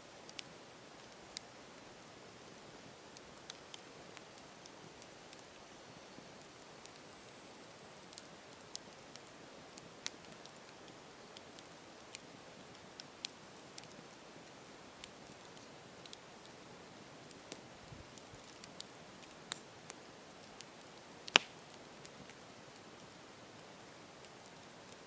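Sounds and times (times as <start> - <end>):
campfire crackling and popping: 0.1 - 25.0.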